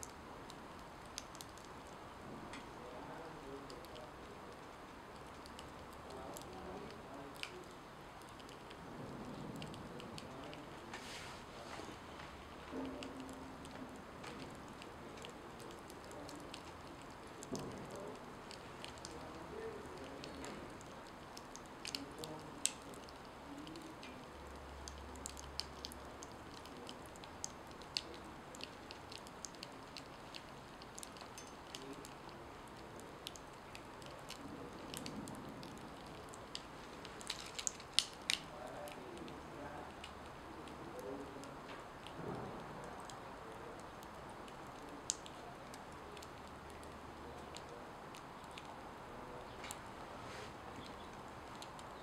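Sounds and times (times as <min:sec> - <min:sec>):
tortilla crackling in a pan: 0:00.0 - 0:52.0.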